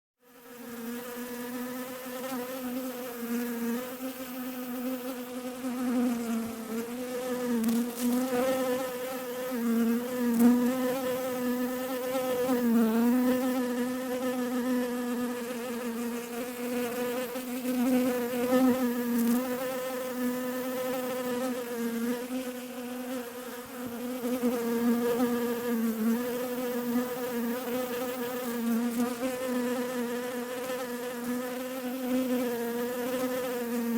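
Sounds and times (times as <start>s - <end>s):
bee buzzing in flight: 0.2s - 33.9s.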